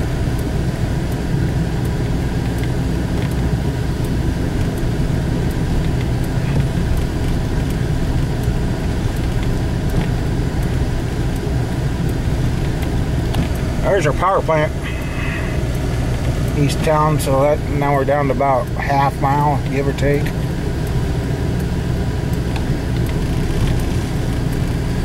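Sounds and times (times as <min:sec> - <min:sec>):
vehicle driving low rumble: 0:00.0 - 0:25.0.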